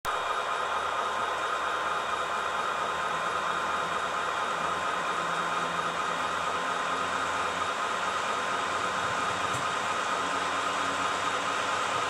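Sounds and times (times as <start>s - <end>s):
tinny diesel engine idling sound: 0.1s - 12.0s.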